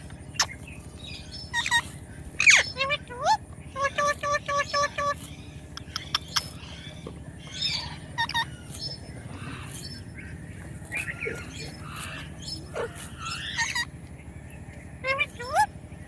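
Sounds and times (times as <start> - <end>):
steady low hum: 0.0 - 16.0
parakeet chirps and squawks: 0.3 - 13.9, 15.0 - 15.8.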